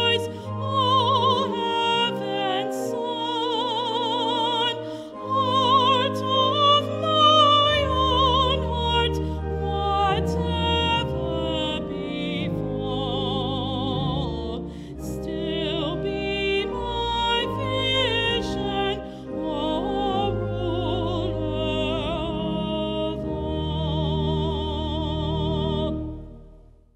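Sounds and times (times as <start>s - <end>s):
woman singing a hymn: 0.0s - 26.4s
organ chords: 0.0s - 26.9s.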